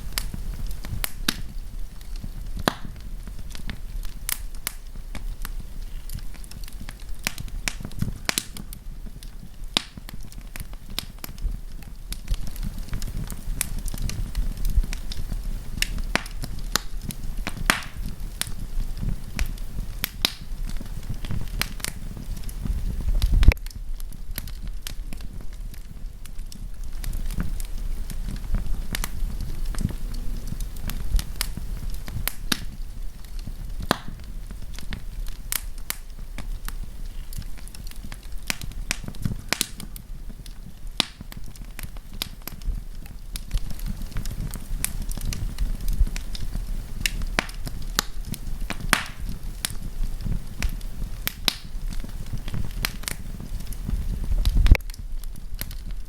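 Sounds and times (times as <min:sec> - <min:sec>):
campfire crackling and popping: 0:00.0 - 0:56.0
low rumble of fire: 0:00.0 - 0:56.0.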